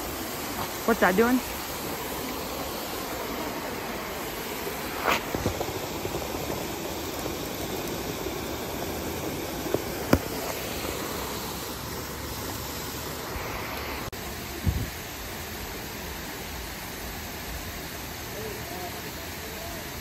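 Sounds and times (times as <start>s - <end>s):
water pouring over spillway: 0.0s - 20.0s.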